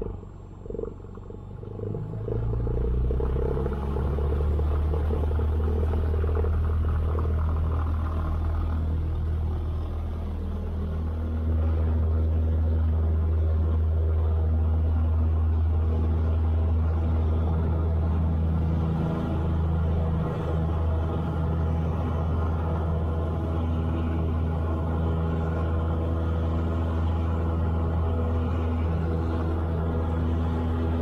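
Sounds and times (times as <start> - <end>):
propeller plane engine in flight: 0.0 - 31.0.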